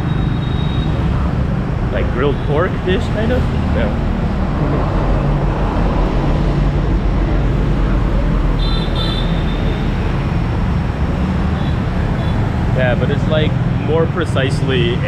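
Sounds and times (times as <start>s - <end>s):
motorbikes passing: 0.0s - 15.0s
street traffic: 0.0s - 15.0s.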